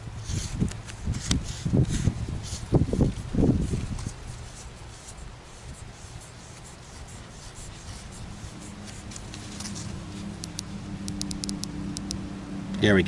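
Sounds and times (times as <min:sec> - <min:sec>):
low steady hum: 0:00.0 - 0:13.0
headlamp rubbing and clicking: 0:00.2 - 0:12.2.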